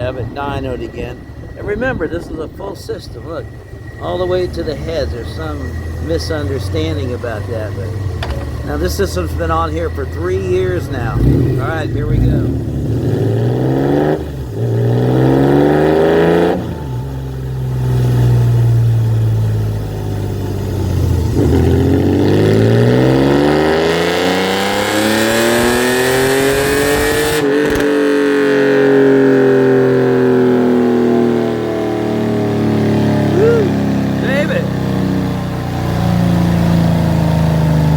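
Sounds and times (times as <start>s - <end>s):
engine revving on dynamometer: 2.9s - 8.0s, 8.7s - 19.4s, 20.8s - 37.9s.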